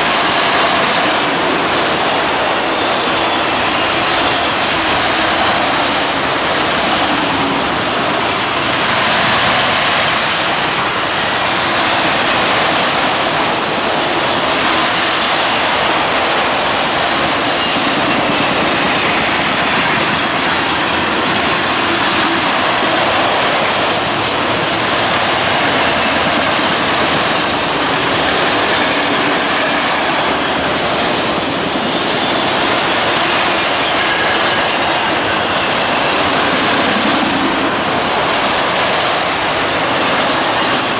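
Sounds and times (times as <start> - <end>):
train wheels on rail: 0.0 - 40.9.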